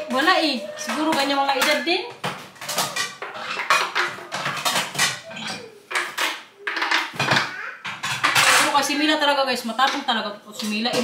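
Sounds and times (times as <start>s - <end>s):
dishes and cutlery clattering: 0.0s - 9.2s.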